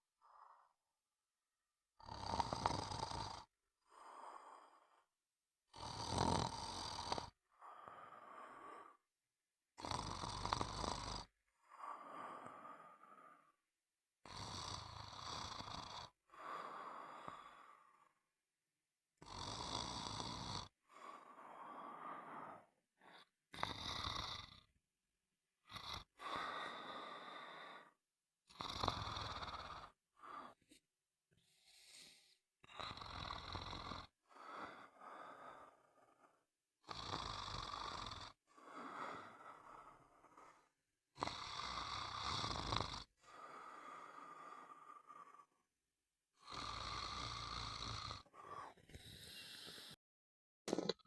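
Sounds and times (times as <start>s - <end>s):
person snoring: 2.0s - 5.0s, 5.7s - 9.0s, 9.8s - 13.6s, 14.2s - 18.2s, 19.2s - 24.8s, 25.6s - 30.8s, 31.4s - 45.7s, 46.3s - 50.0s, 50.7s - 51.0s.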